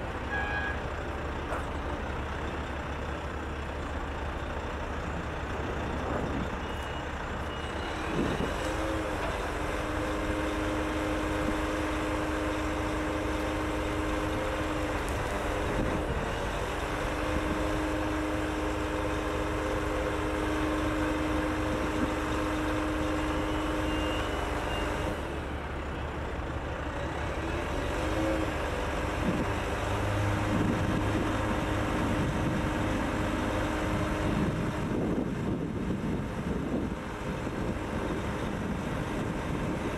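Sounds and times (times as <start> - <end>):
truck engine droning hum: 0.0 - 39.9.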